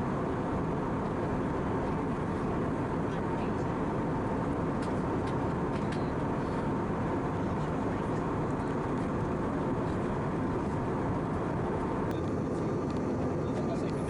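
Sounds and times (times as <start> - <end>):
airplane cabin airflow and engines: 0.0 - 14.0.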